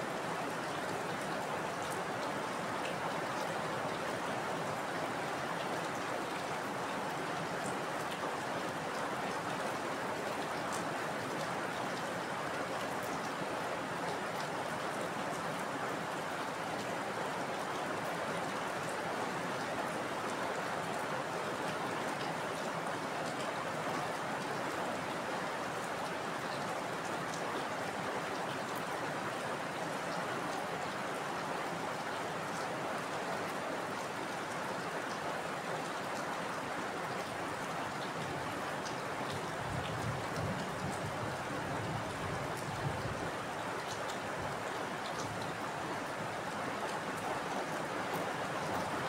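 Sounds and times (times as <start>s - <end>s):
heavy rain falling: 0.0s - 49.0s.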